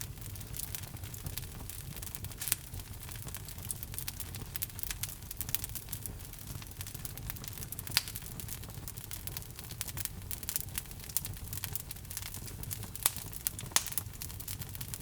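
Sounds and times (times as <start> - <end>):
fire rumbling in fireplace: 0.0 - 15.0
wood crackling and popping: 0.0 - 15.0.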